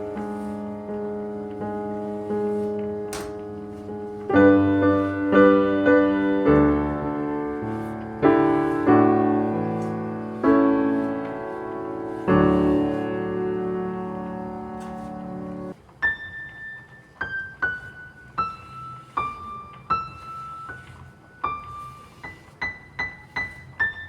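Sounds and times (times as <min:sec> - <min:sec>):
slow piano chords: 0:00.0 - 0:24.0.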